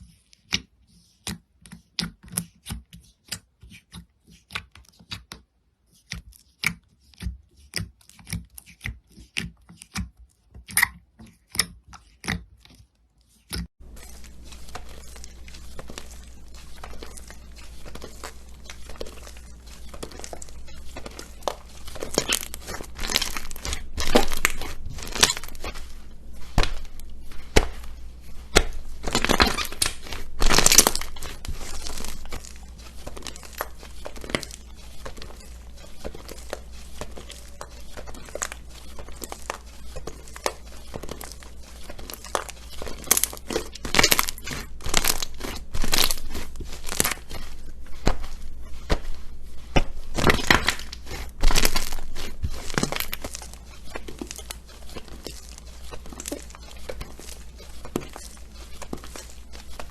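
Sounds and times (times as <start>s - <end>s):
slime crackling and crinkling: 0.0s - 59.9s.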